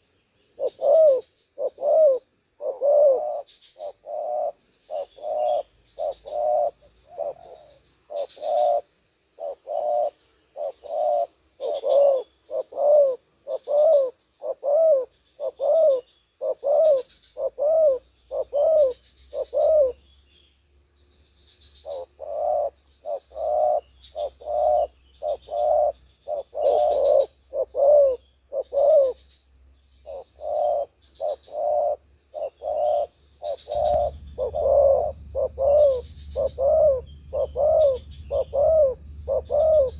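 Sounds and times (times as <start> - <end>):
doves cooing: 0.0 - 20.0, 21.8 - 29.2, 30.0 - 39.9.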